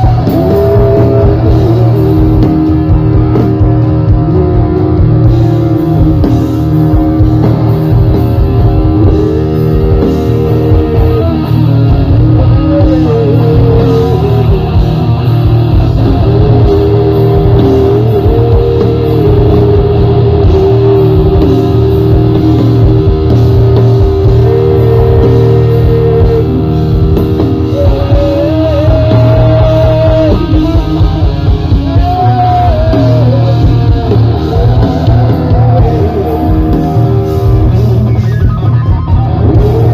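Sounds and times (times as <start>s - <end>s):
lead melody in long notes: 0.0s - 39.9s
rock band playing live: 0.0s - 39.9s.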